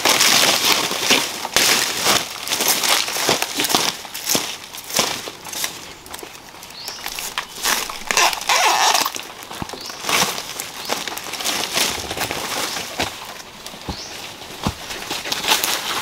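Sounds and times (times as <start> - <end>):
dry leaves crackling and rustling: 0.0 - 16.0
footsteps crunching through leaf litter: 0.0 - 16.0.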